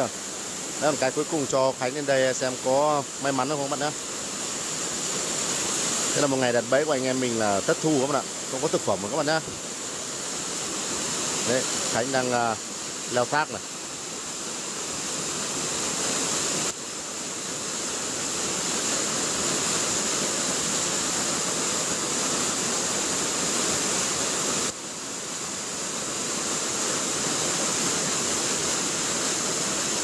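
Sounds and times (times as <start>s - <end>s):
waterfall pouring over rock: 0.0s - 30.0s.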